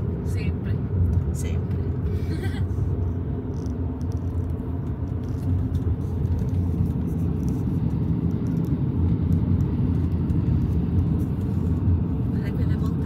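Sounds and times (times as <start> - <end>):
car driving along a road: 0.0 - 13.0.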